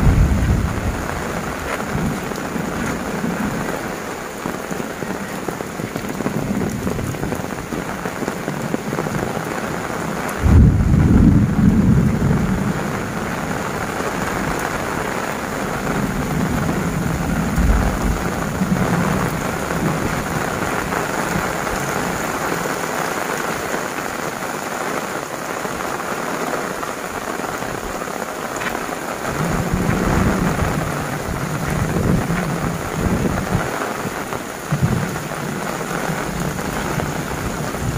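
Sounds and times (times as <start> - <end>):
thunder rumbling: 0.0 - 22.3, 28.6 - 37.9
heavy rain falling: 0.0 - 37.9.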